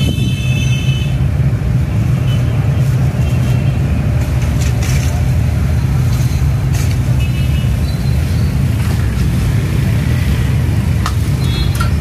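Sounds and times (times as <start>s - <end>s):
burner flame rumble: 1.2s - 11.4s.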